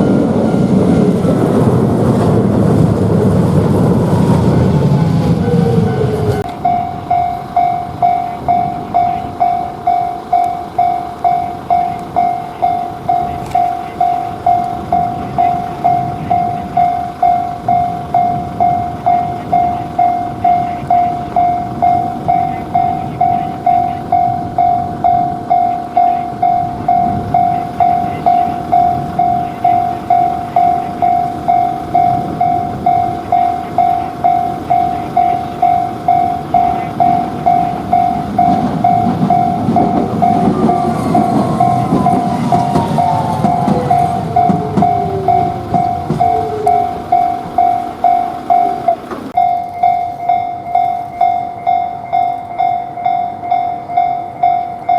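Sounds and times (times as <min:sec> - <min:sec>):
railway crossing warning bell: 0:00.0 - 0:02.7, 0:04.7 - 0:54.9
tram rumbling: 0:00.0 - 0:54.9
wheels squealing: 0:00.0 - 0:54.9.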